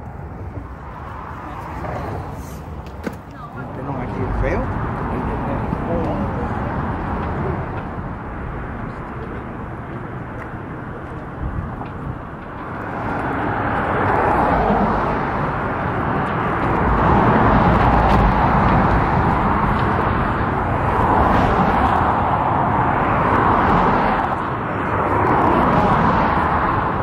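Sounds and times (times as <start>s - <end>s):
road traffic rushing past: 0.0s - 27.0s.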